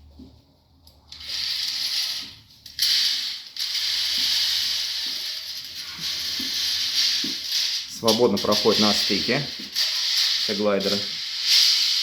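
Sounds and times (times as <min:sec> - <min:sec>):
curtain gliders sliding on track: 0:01.2 - 0:12.0.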